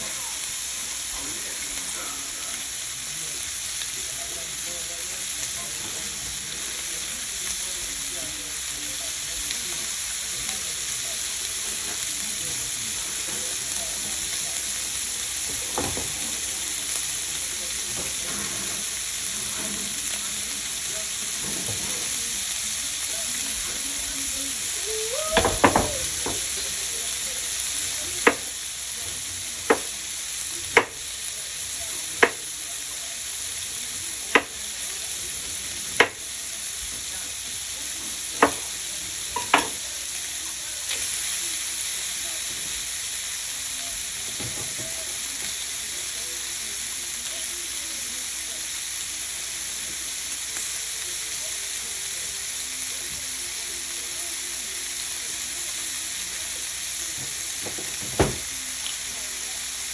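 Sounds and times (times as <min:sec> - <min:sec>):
sausage sizzling in frying pan: 0:00.0 - 0:59.9.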